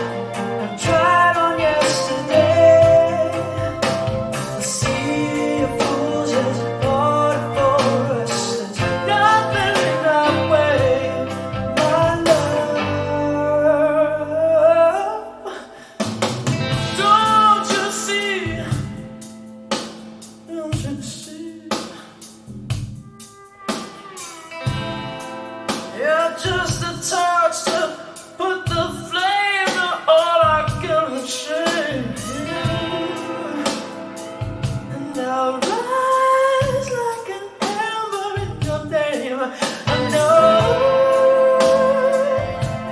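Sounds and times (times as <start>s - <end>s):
person singing: 0.0s - 16.0s, 16.7s - 19.3s, 20.4s - 22.3s, 23.0s - 42.9s
guitar: 0.0s - 42.9s.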